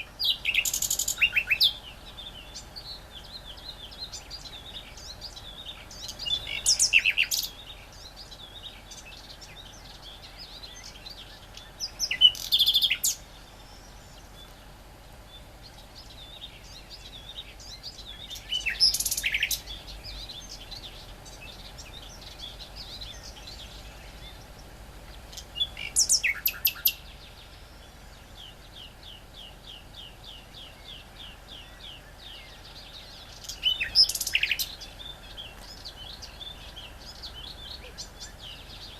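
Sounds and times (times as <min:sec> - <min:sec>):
faint bird chirping: 0:00.0 - 0:38.9
quick ticking bird notes: 0:00.0 - 0:38.9
warbler singing in short bursts: 0:00.0 - 0:38.9.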